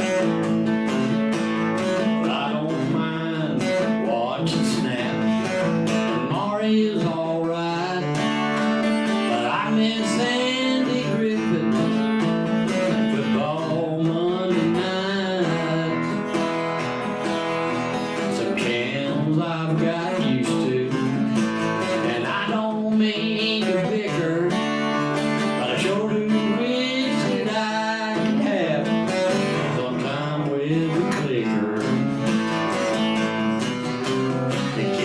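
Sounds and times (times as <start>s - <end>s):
strummed acoustic guitar: 0.0s - 35.0s.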